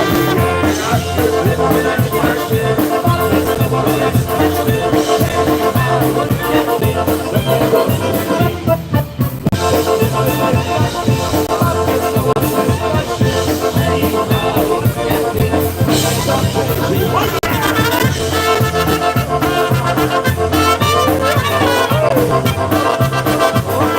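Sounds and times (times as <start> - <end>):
drums: 0.0 - 23.9
polka band playing: 0.0 - 23.9
steady bass beat: 0.0 - 23.9.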